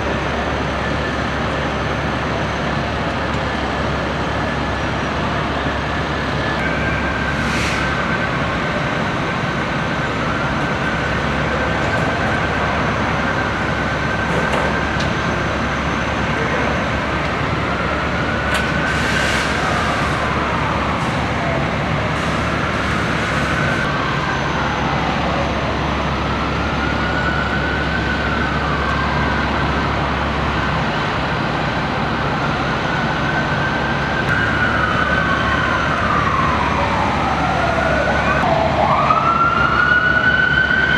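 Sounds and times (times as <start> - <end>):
emergency siren wailing: 0.0 - 40.9
engines and street noise rumble: 0.0 - 40.9.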